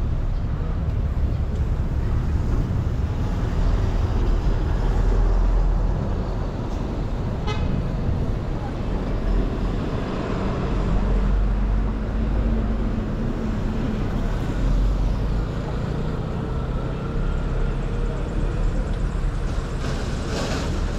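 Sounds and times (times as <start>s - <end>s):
engine hum: 0.0s - 20.9s
traffic rumble: 0.0s - 20.9s.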